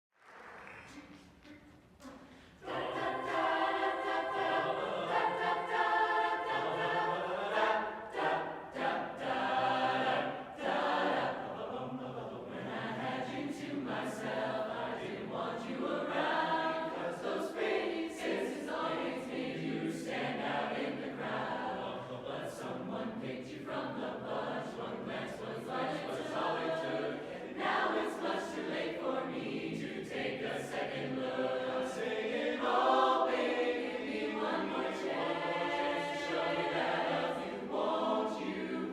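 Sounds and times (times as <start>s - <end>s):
chorus singing a cappella: 0.9s - 38.9s.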